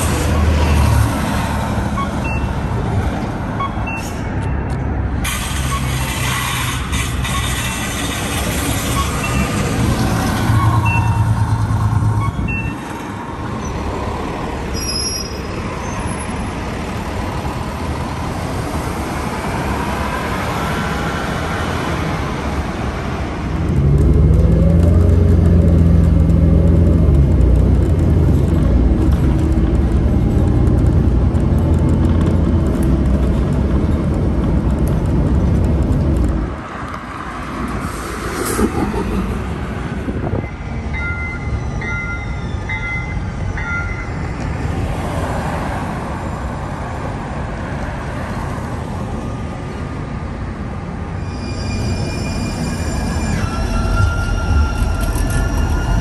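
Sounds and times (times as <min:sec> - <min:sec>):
bus engine drone inside: 0:00.0 - 0:56.0
buses passing: 0:00.0 - 0:56.0
street traffic: 0:00.0 - 0:56.0.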